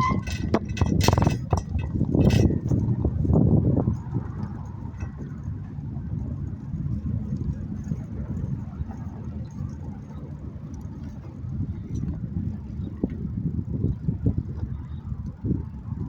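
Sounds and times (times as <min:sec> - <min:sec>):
gusting rumble of bicycle ride: 0:00.0 - 0:16.0.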